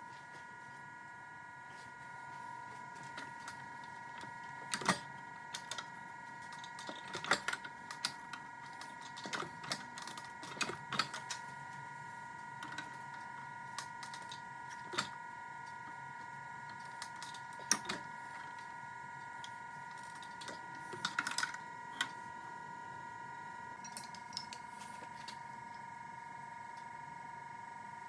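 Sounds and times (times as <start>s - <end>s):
steady high-pitched hum: 0.0s - 28.0s.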